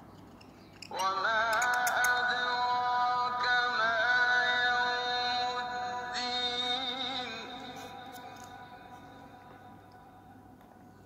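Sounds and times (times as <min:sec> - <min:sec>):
chant-like vocal music: 0:00.9 - 0:10.8.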